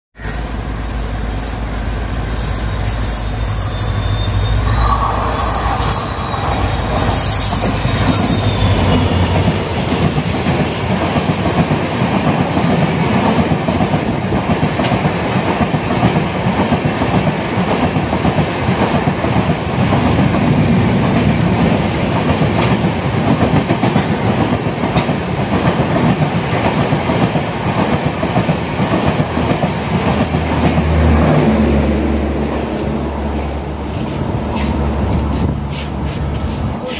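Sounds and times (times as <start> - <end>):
train wheels rushing on rails: 0.2 - 36.9.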